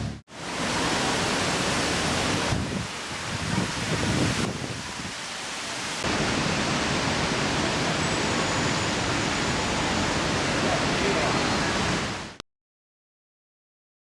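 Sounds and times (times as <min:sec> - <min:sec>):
heavy rain hiss: 0:00.0 - 0:12.4.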